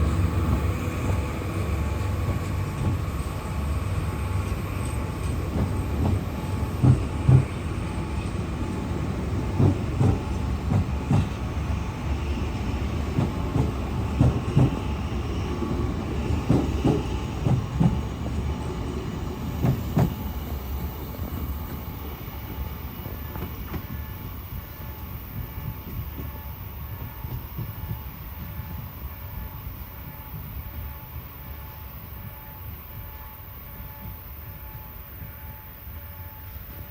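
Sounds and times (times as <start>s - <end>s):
train low rumble: 0.0s - 36.9s
train wheels knocking on rail joints: 0.0s - 36.9s.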